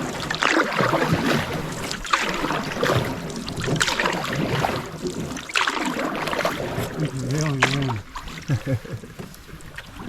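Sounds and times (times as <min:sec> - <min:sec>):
canoe paddle strokes in water: 0:00.0 - 0:10.0.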